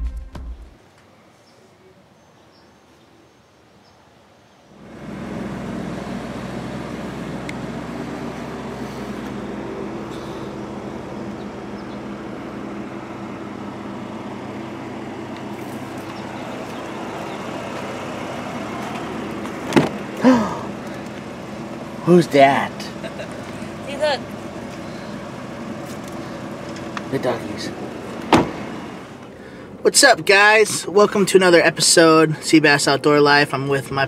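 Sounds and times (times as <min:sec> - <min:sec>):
vehicle engine running: 0:04.8 - 0:32.6.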